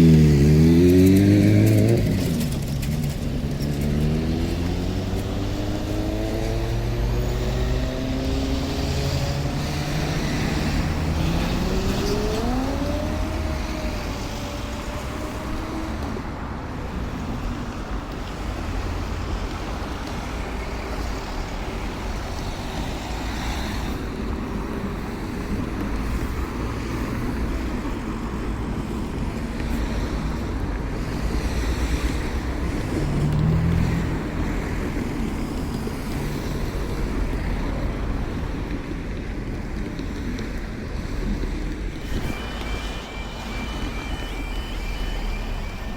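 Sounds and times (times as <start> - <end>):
diesel train engine passing: 0.0 - 45.9.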